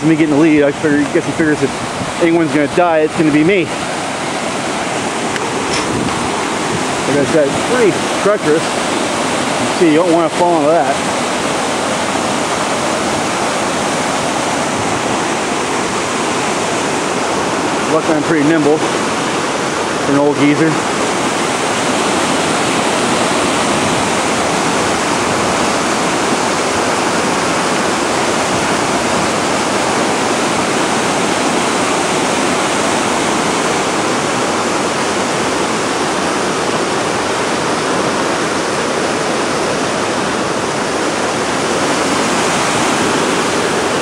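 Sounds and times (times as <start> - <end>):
river rapids rushing over rocks: 0.0 - 44.0.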